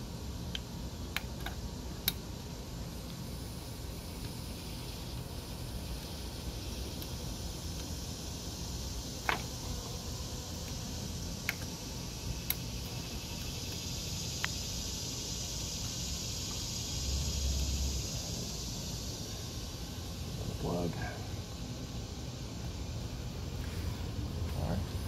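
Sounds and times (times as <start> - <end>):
steady high hiss: 0.0 - 25.0.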